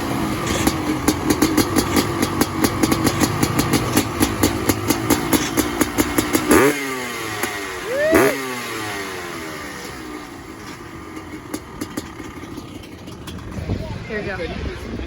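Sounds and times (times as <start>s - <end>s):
two-stroke engine lumpy idle: 0.0s - 15.0s.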